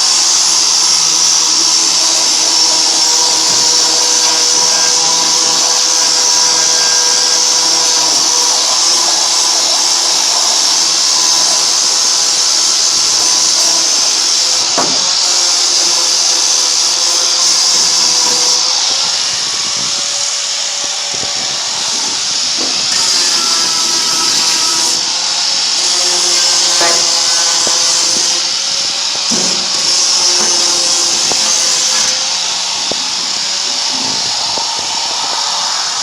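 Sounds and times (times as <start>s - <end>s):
power grinder grinding metal: 0.0s - 36.0s.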